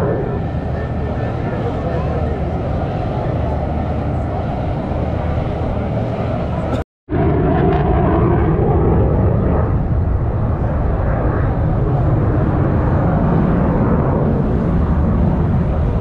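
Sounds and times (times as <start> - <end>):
aircraft engine roar: 0.0 - 16.0.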